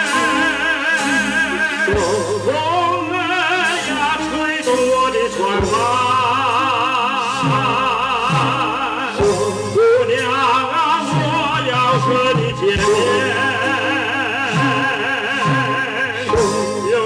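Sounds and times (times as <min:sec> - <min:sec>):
live band playing: 0:00.0 - 0:17.0
person singing with vibrato: 0:00.0 - 0:17.0.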